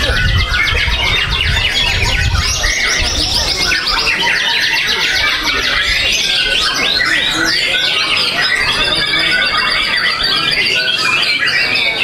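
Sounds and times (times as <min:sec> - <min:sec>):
other birdsong: 0:00.0 - 0:12.0
songbird singing rapid trills: 0:00.0 - 0:12.0.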